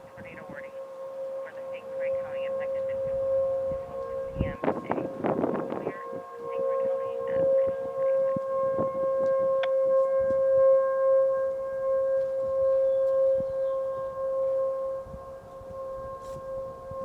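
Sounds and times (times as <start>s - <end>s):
tornado warning siren: 0.0s - 17.0s.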